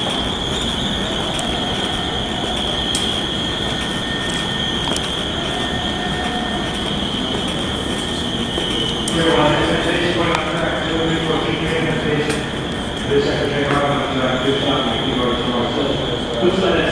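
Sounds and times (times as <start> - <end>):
train high-pitched whine: 0.0 - 16.9
train low rumble: 0.0 - 16.9.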